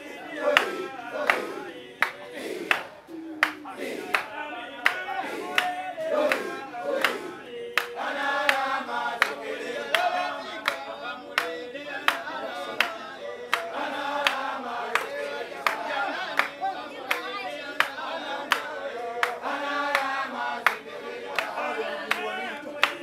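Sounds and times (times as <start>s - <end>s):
group of voices singing: 0.0s - 23.0s
hand claps: 0.0s - 23.0s.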